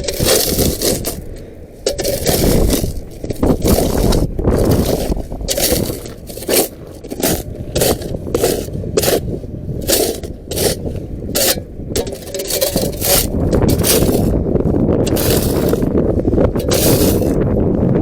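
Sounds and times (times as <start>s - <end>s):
footsteps on dirt and gravel: 0.0s - 17.4s
wind rumble on microphone: 0.0s - 18.0s.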